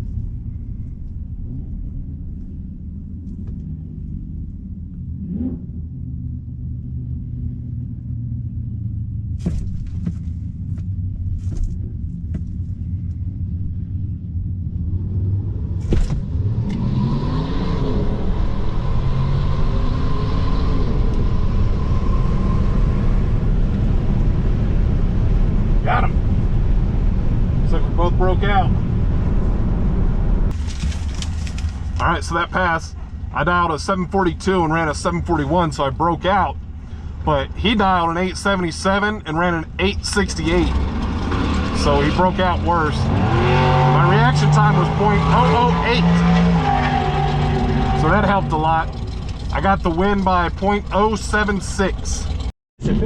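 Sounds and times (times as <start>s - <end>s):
low cabin rumble: 0.0s - 16.8s, 18.0s - 53.0s
road and wind noise: 0.0s - 53.0s.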